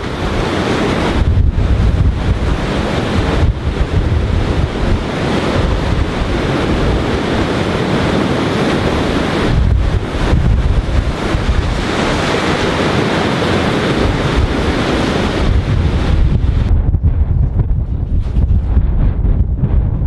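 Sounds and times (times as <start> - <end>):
surf washing against breakwater: 0.0 - 16.7
wind buffeting microphone: 0.0 - 20.0.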